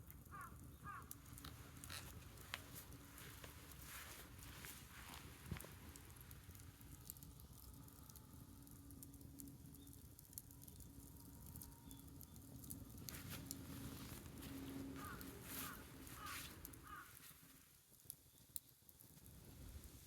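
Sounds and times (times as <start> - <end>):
bonfire crackling: 0.0 - 20.0.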